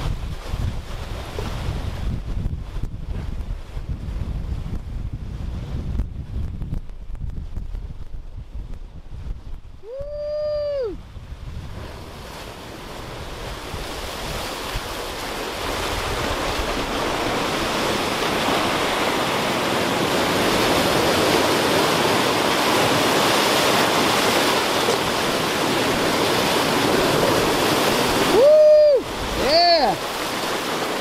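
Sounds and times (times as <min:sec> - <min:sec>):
surf breaking over rocks: 0:00.0 - 0:31.0.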